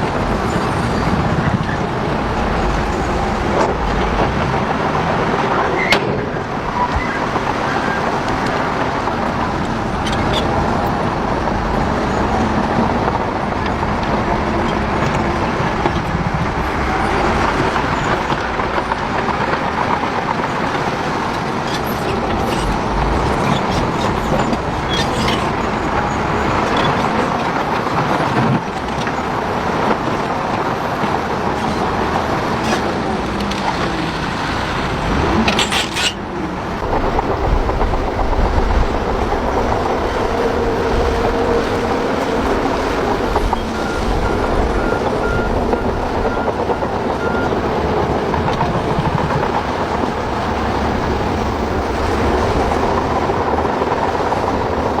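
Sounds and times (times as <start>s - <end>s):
heavy machinery engines running: 0.0s - 55.0s.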